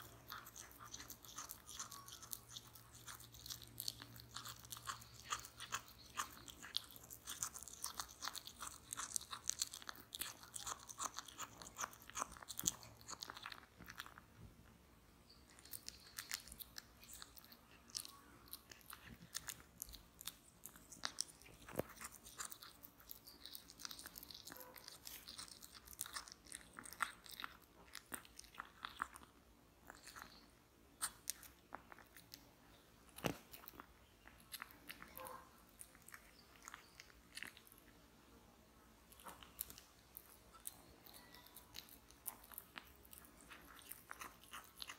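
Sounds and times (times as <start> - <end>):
cat chewing and mouth clicks: 0.0 - 14.8, 15.5 - 38.0, 39.0 - 44.9.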